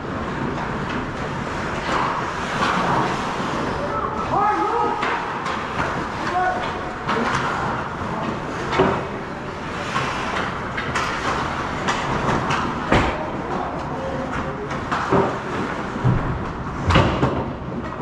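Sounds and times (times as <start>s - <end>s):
ice rink rumble with scraping: 0.0s - 18.0s
hockey sticks and puck knocking: 0.1s - 18.0s.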